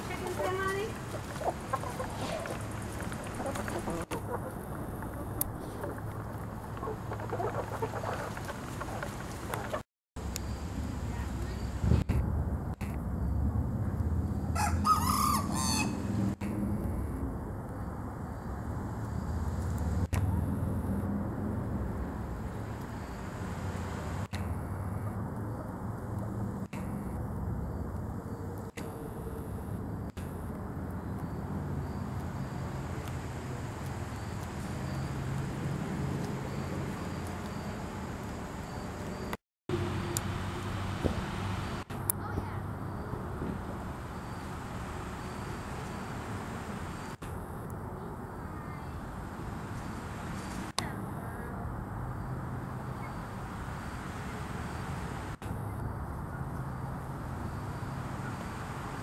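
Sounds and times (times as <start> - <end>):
outdoor rumble and hiss: 0.0 - 59.0.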